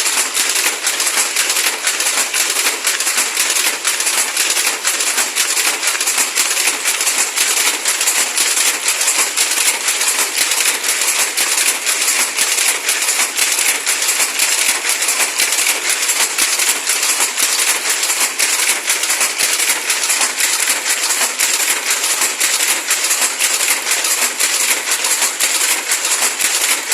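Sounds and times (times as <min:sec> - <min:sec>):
weaving loom clattering: 0:00.0 - 0:26.9.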